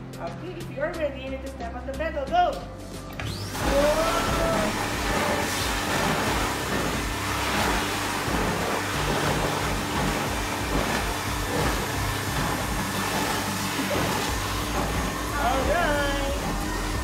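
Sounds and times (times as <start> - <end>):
stuffing machine blower running: 3.2 - 17.0.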